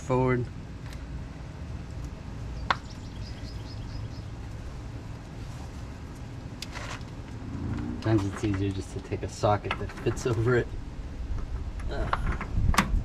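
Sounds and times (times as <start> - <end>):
low outdoor hum: 0.0 - 13.0.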